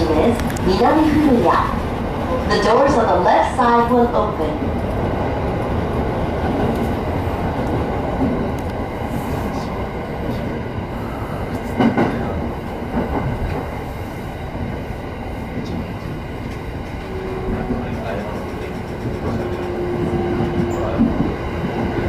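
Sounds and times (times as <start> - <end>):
train motor and wheel rumble: 0.0 - 22.0.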